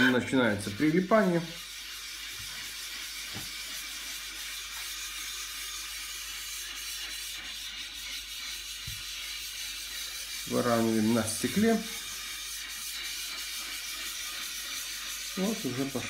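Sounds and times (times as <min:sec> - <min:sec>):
block rubbing on gritty glass: 0:00.0 - 0:16.0.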